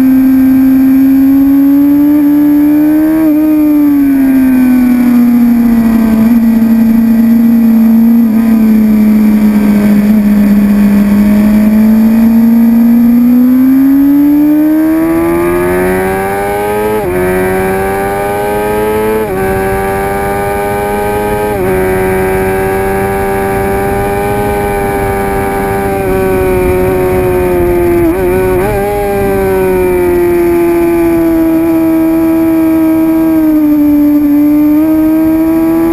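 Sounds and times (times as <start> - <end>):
sport bike engine running hard: 0.0 - 35.9.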